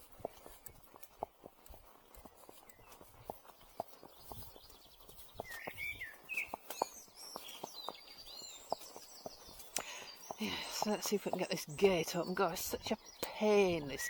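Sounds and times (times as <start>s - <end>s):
birds chirping: 0.0s - 14.0s
horse hooves walking: 0.0s - 14.0s.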